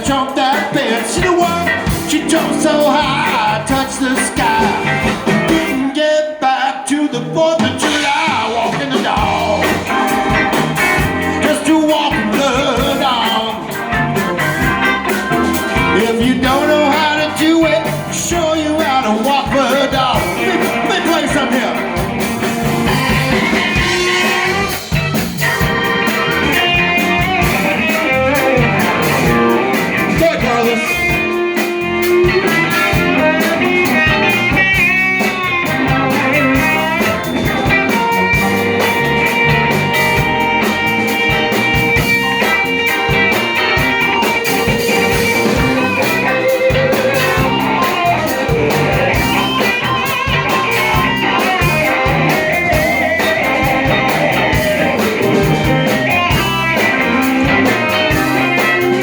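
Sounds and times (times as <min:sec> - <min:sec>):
bass and drums: 0:00.0 - 0:06.0, 0:07.2 - 0:59.0
lead guitar solo: 0:04.1 - 0:05.9, 0:09.2 - 0:59.0.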